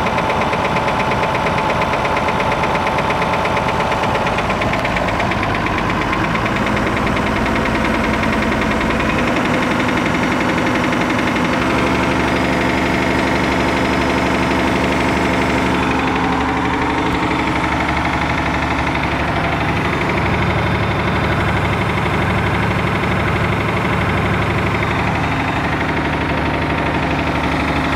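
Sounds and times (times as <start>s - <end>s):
diesel engine running with a knock: 0.0s - 27.9s.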